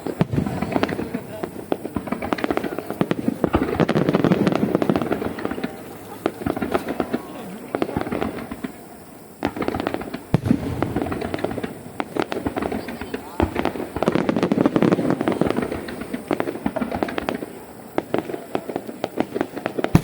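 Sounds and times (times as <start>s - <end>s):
aerial fireworks bursting: 0.0s - 20.0s.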